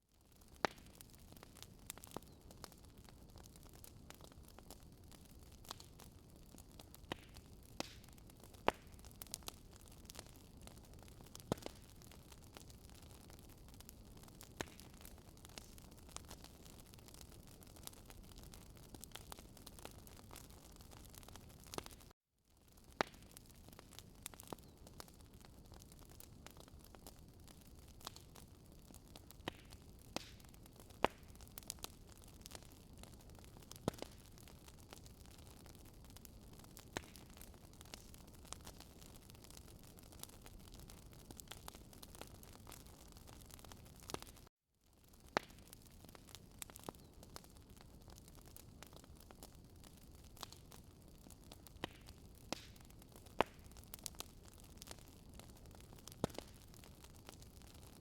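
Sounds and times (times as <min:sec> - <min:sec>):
wood fire crackling: 0:00.2 - 0:58.0.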